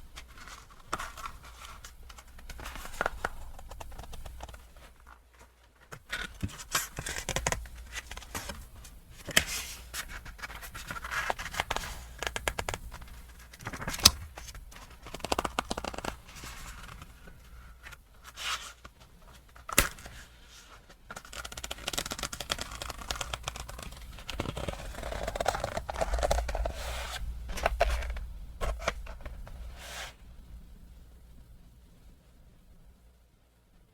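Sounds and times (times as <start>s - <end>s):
rustling and scraping packaging: 0.0s - 30.3s.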